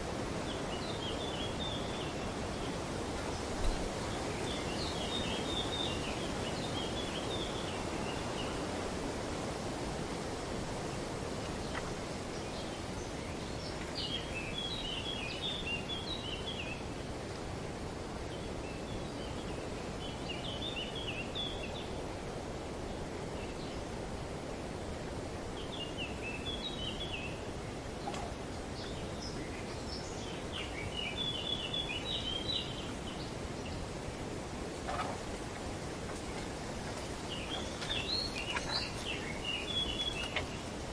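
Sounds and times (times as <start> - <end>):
wind rushing through trees: 0.0 - 40.9.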